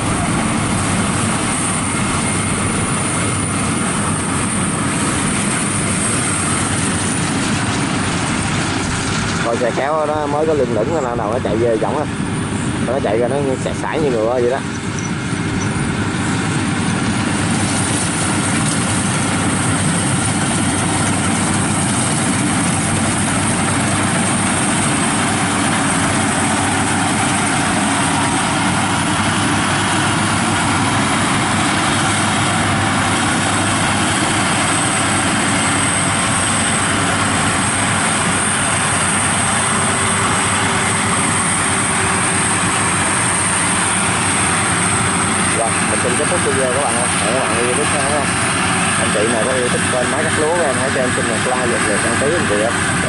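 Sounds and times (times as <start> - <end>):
combine harvester running: 0.0 - 53.0
thin high whine: 0.0 - 53.0.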